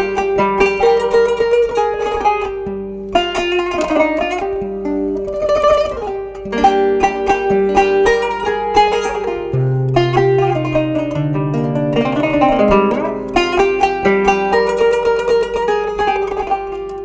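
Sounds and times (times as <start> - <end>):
plucked zither melody: 0.0 - 17.0.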